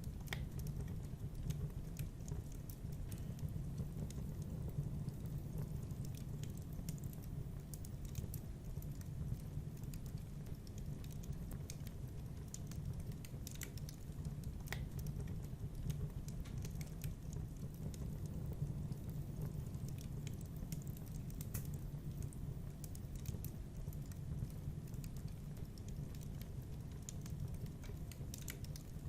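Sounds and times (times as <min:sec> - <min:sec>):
low rumble of flame: 0:00.0 - 0:29.0
sharp snaps and pops: 0:00.0 - 0:29.0
wood fire crackling: 0:00.0 - 0:29.0.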